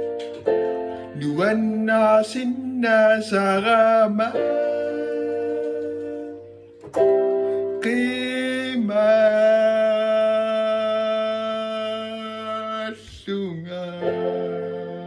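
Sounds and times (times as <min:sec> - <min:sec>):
keyboard chords: 0:00.0 - 0:15.0
man singing slow song: 0:01.0 - 0:06.6, 0:07.6 - 0:15.0.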